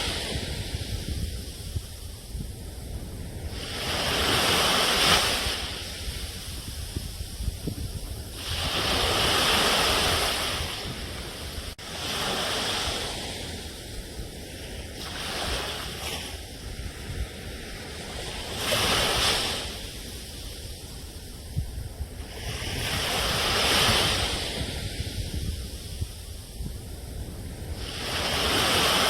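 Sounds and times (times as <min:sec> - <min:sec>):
low rumble of wind: 0:00.0 - 0:29.0
sea waves washing onto shore: 0:00.0 - 0:29.0.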